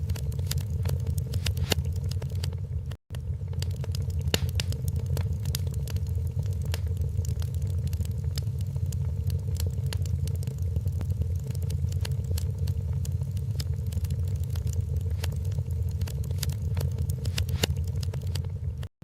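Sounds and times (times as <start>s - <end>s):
low fire rumble: 0.0s - 18.9s
wood fire crackling: 0.0s - 18.9s.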